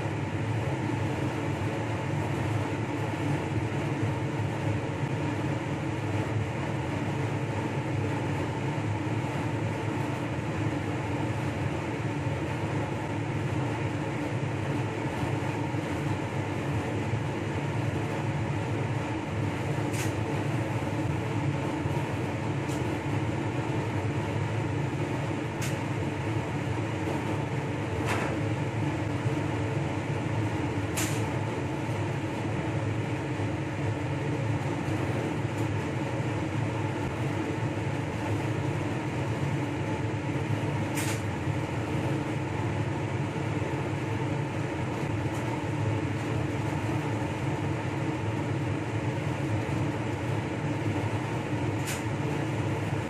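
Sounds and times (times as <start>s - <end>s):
blower fan humming: 0.0s - 53.0s.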